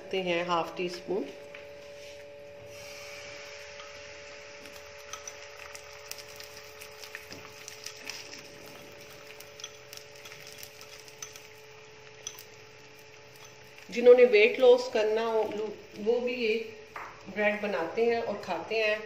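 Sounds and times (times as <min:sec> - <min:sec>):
steady low hum: 0:00.0 - 0:19.0
batter sizzling in a pan: 0:02.7 - 0:18.7.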